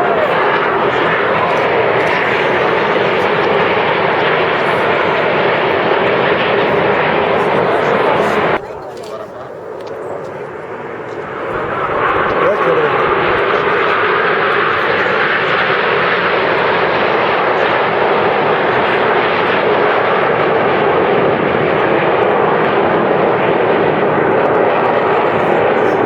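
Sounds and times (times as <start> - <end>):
jet engines in flight: 0.0 - 26.0.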